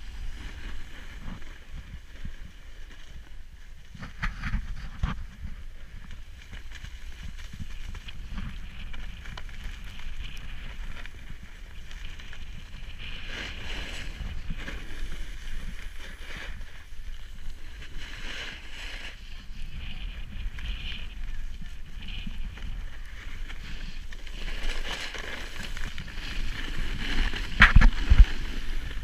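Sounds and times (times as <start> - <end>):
snowboard scraping across snow: 0.0 - 29.0
wind rumbling on microphone: 0.0 - 29.0.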